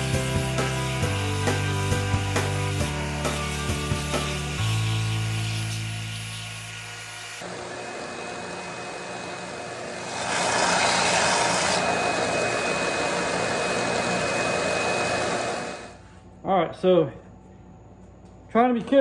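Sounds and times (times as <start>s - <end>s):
sander motor hum: 0.0s - 16.0s.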